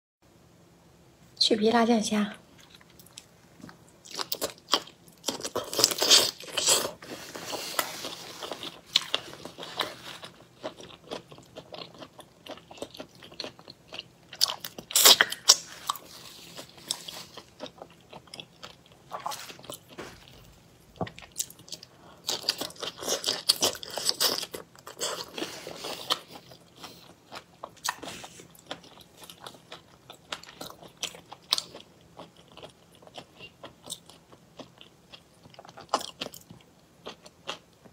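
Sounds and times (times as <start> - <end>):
woman chewing crackly food: 2.5 - 37.9.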